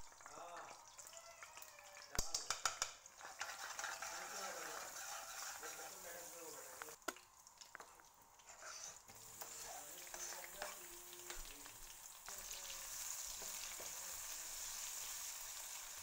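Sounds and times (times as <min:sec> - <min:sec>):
onions sizzling in hot oil: 0:02.2 - 0:07.1, 0:07.7 - 0:16.0.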